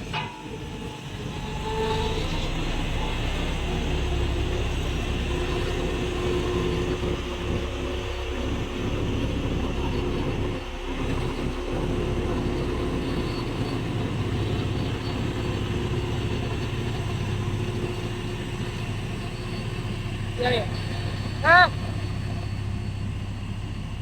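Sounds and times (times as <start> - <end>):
heavy diesel machinery rumbling: 0.0 - 24.0.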